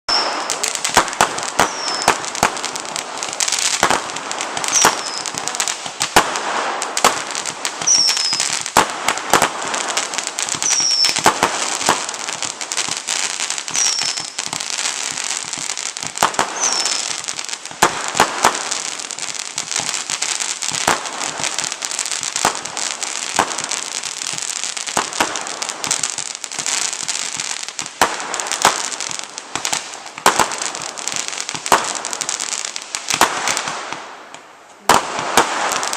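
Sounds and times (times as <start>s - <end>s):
fireworks crackling pops and bangs: 0.0s - 35.9s.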